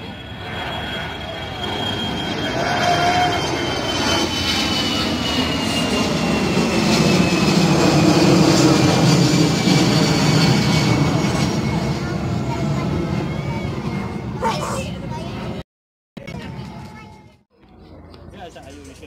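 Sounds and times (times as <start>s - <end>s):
jet engines roaring: 0.0s - 15.3s.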